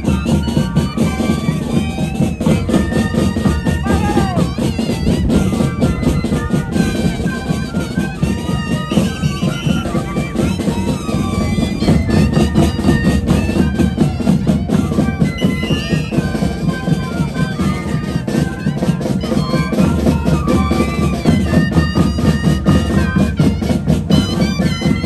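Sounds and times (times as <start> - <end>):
wind instruments playing melody: 0.0 - 25.0.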